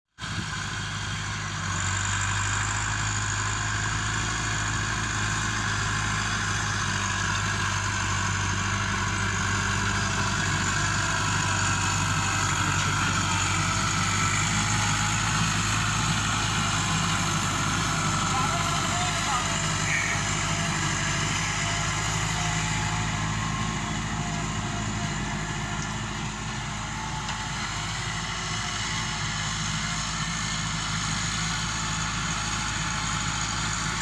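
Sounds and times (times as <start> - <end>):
diesel tractor engine idling: 0.2 - 34.0.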